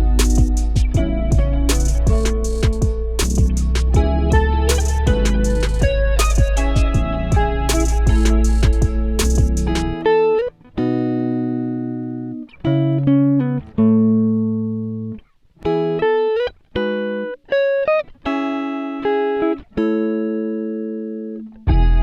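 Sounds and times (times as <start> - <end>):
plucked guitar music: 0.0 - 22.0.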